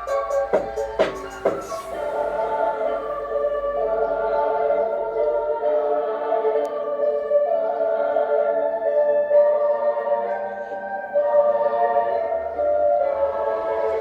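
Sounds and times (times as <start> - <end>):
choir-like sustained chords: 0.0 - 14.0.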